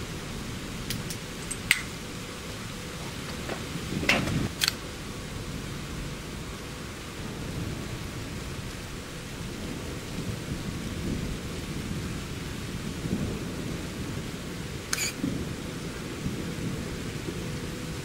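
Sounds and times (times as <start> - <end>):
steady hiss: 0.0 - 18.0
thunder rumbling: 0.0 - 18.0.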